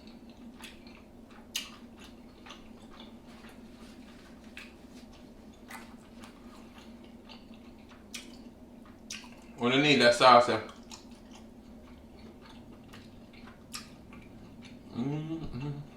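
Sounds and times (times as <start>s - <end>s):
wet chewing and mouth clicks: 0.0s - 9.6s, 10.6s - 15.8s
faint steady hum: 0.0s - 15.9s.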